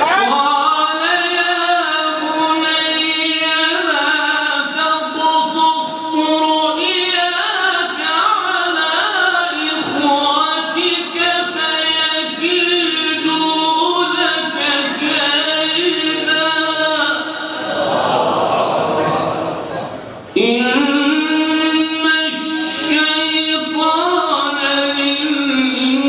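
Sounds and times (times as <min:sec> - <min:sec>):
person reciting in melodic chant: 0:00.0 - 0:26.0.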